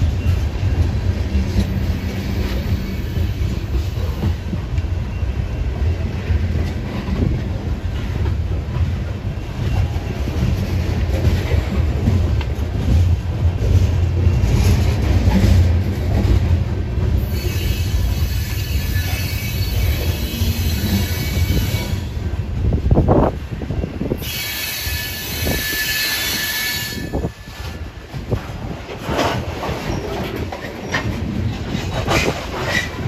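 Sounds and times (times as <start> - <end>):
clickety-clack over rail joints: 0.0 - 33.0
train wheels rumbling on rail: 0.0 - 33.0.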